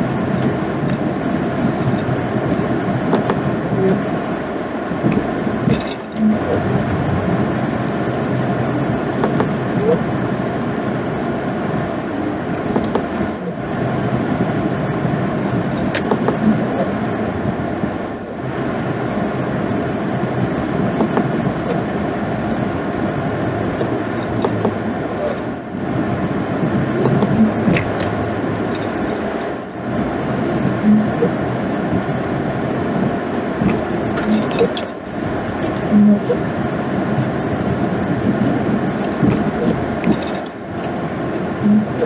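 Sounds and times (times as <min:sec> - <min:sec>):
truck engine and road noise: 0:00.0 - 0:42.0.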